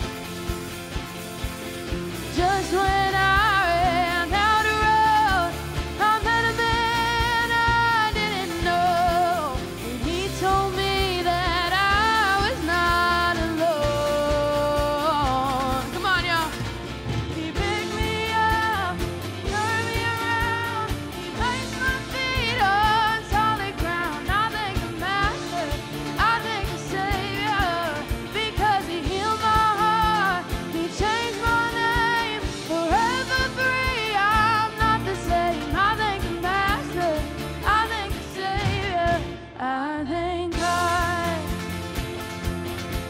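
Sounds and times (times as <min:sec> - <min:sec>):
worship band playing upbeat song: 0:00.0 - 0:43.0
person singing: 0:02.3 - 0:42.2.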